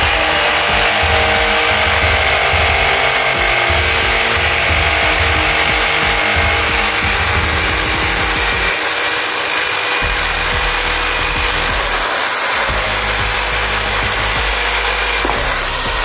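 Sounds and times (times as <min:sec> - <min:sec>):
electric drill boring shell: 0:00.0 - 0:16.0.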